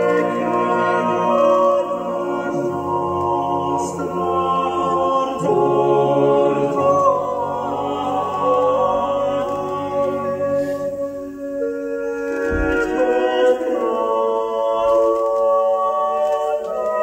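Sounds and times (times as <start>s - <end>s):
a cappella choir singing: 0.0s - 17.0s.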